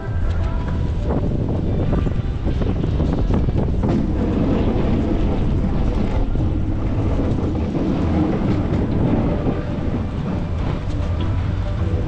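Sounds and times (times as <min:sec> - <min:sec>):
truck plowing snow rumble: 0:00.0 - 0:12.0
wind buffeting microphone: 0:00.0 - 0:12.0.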